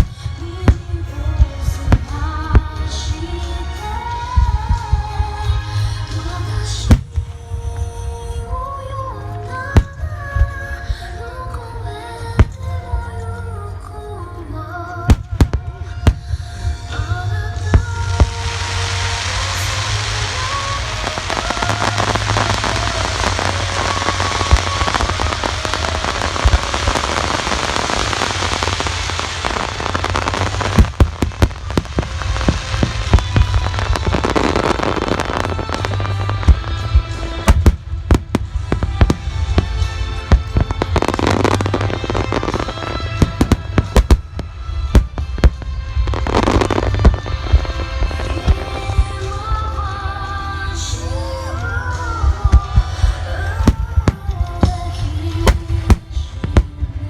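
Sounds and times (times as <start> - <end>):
fireworks bangs and crackles: 0.0 - 13.4, 15.0 - 57.0
music playing: 0.0 - 57.0.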